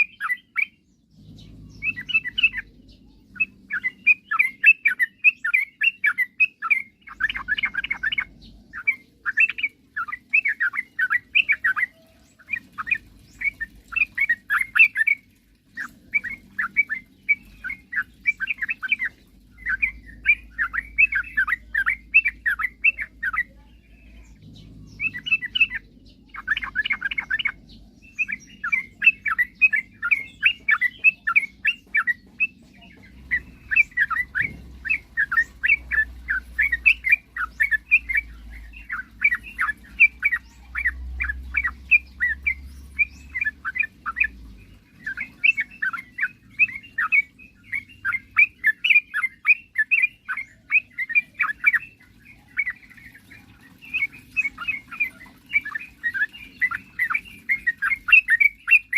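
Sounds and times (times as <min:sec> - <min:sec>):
bulbul chattering song: 0:00.0 - 0:58.9.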